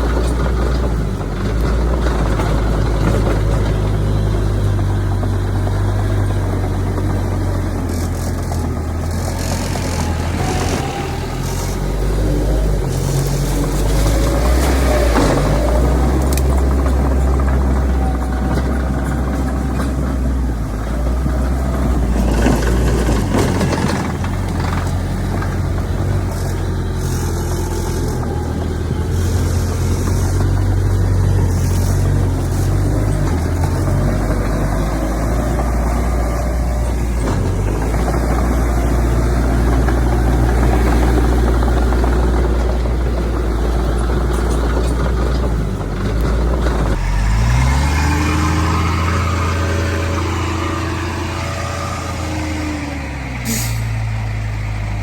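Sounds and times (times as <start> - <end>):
engine revving: 0.0 - 55.0
heavy diesel engines running: 0.0 - 55.0.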